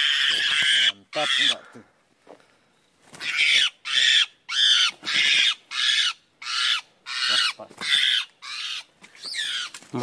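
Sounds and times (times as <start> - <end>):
bird squawking harshly: 0.0 - 1.7, 3.2 - 9.8.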